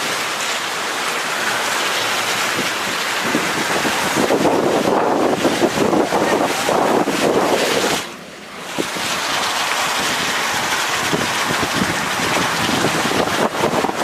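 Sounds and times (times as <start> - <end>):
wind buffeting microphone: 2.4 - 14.0.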